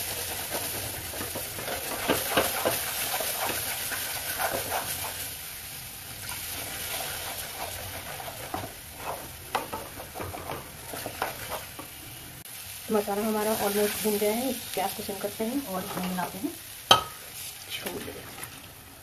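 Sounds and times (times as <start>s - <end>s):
masala sizzling in oil: 0.0s - 19.0s.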